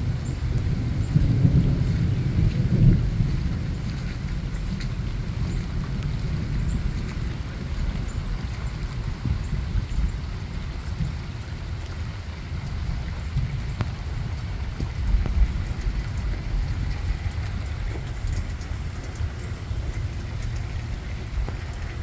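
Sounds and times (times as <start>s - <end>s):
rain falling on water and grass: 0.0s - 22.0s
wind rumble on microphone: 0.0s - 22.0s.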